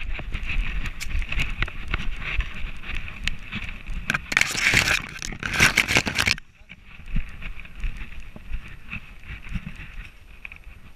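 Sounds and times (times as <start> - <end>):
rubbing and rattling on camera: 0.0 - 10.9
wind rumble: 0.0 - 10.9.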